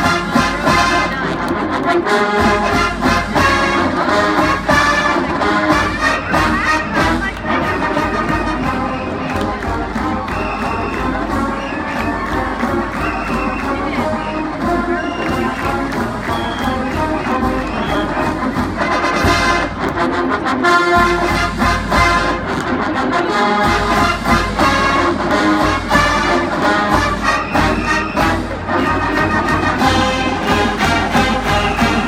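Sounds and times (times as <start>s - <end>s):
steady drum beat: 0.0s - 1.4s, 2.3s - 22.6s, 23.6s - 32.0s
marching band brass: 0.0s - 32.0s.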